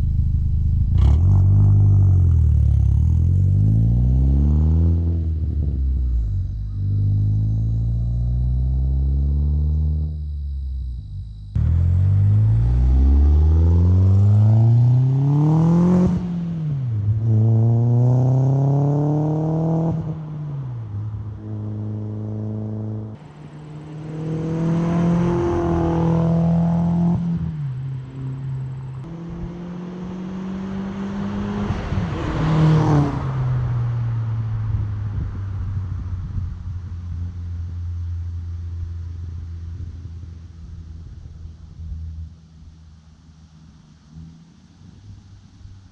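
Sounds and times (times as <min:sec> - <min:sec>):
car engine accelerating hard: 0:00.0 - 0:10.4, 0:11.3 - 0:41.9.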